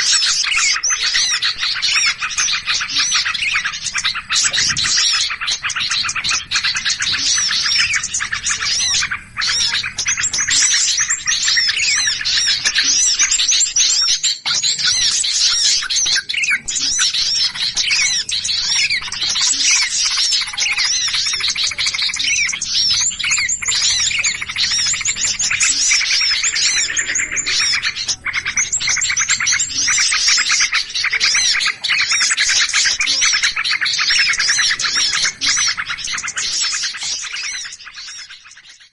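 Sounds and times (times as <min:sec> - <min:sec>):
many small birds chirping: 0:00.0 - 0:38.9.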